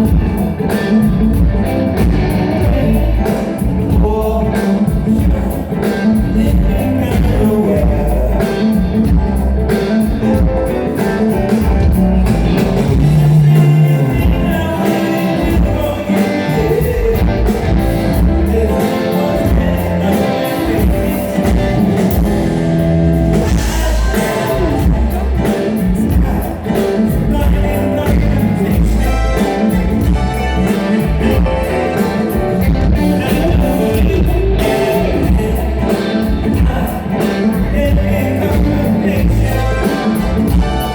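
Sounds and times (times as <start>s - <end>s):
singer: 0.0s - 9.3s, 13.0s - 22.0s, 23.4s - 40.9s
bass guitar: 0.0s - 40.9s
drums: 0.0s - 40.9s
electric guitar: 0.0s - 40.9s.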